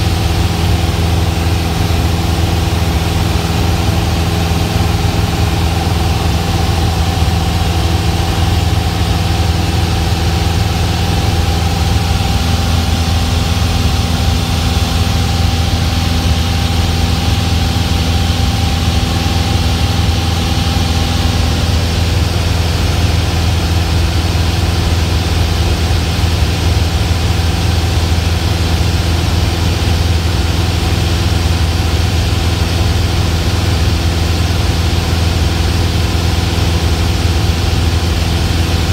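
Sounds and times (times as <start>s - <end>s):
airplane engine and propeller droning: 0.0s - 38.9s.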